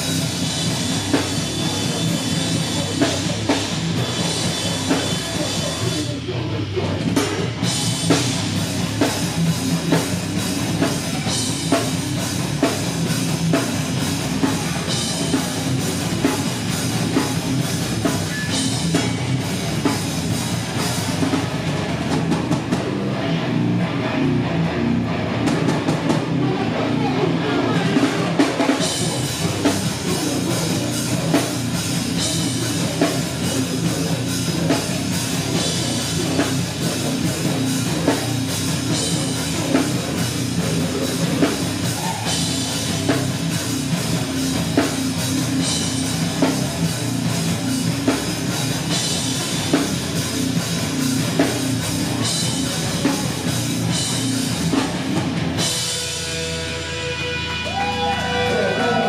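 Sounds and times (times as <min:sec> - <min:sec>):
distorted electric guitar: 0:00.0 - 0:59.0
pounding drum kit: 0:00.0 - 0:59.0.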